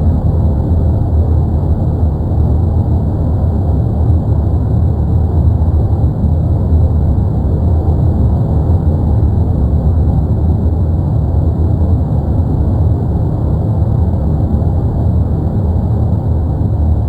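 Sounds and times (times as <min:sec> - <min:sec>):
volcano low rumble: 0:00.0 - 0:17.0.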